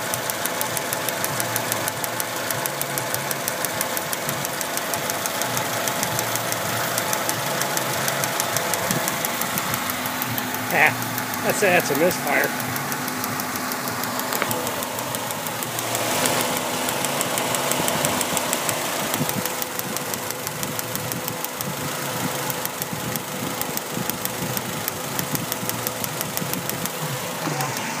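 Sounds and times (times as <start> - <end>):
car engine idling with tapping: 0.0 - 28.0.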